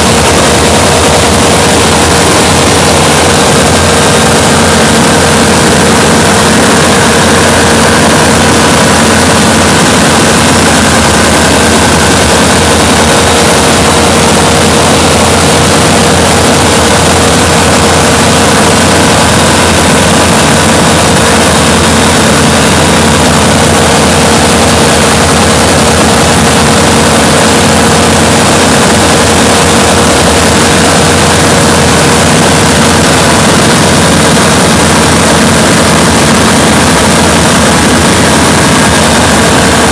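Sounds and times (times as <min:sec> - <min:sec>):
aircraft engine and propeller drone: 0:00.0 - 0:39.9
rushing air: 0:00.0 - 0:39.9.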